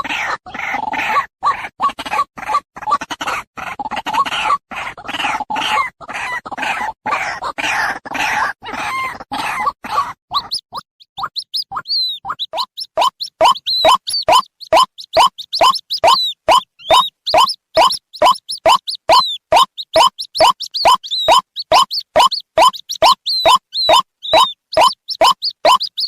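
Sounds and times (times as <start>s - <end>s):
bird chicks harsh scratchy calls: 0.0s - 26.0s.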